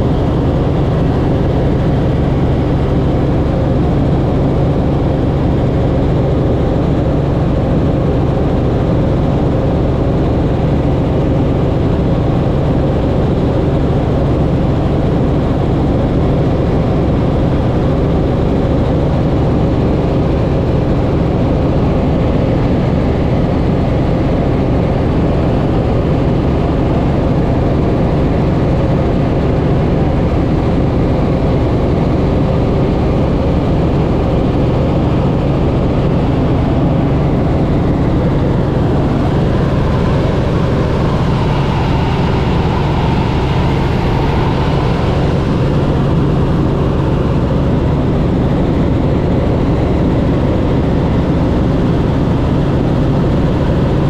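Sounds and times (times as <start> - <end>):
helicopter rotor and engine drone: 0.0 - 54.0.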